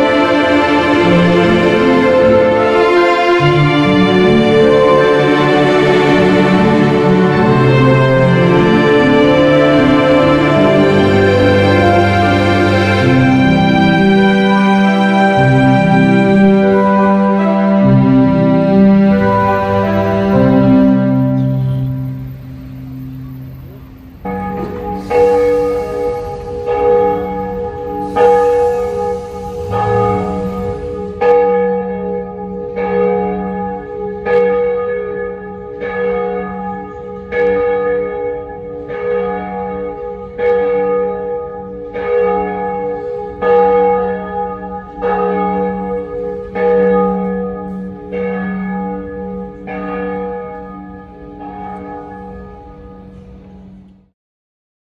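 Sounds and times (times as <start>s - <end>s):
church bell tolling: 0.0s - 54.1s.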